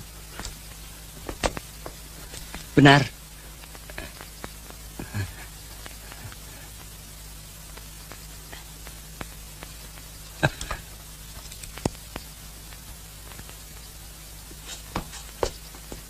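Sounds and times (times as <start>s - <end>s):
low steady hum: 0.0s - 16.0s
old film hiss and crackle: 0.0s - 16.0s.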